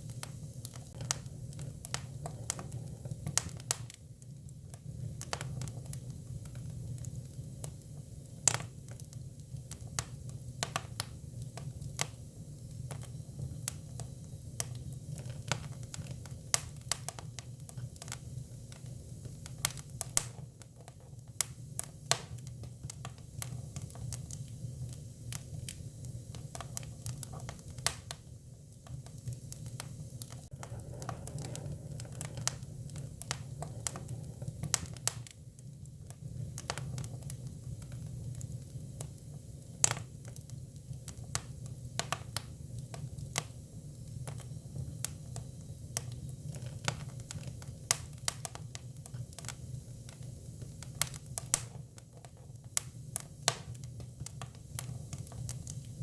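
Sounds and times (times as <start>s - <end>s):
firewood crackling and popping: 0.0s - 56.0s
low rumble of fire: 0.0s - 56.0s.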